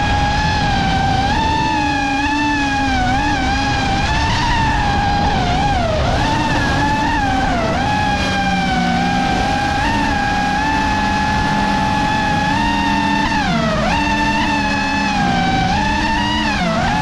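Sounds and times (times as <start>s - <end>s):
quadcopter motors whining: 0.0s - 17.0s
rushing wind noise: 0.0s - 17.0s.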